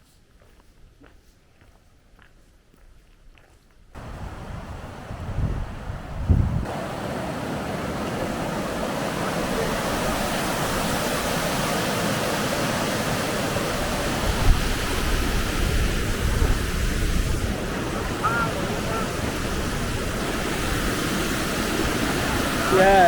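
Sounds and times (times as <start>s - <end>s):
wind buffeting microphone: 4.0s - 22.8s
rushing water: 4.0s - 23.0s.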